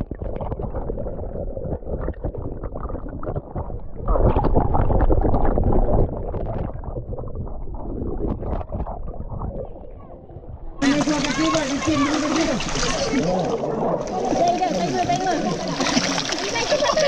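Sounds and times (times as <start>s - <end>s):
underwater churning of fish: 0.0s - 17.0s.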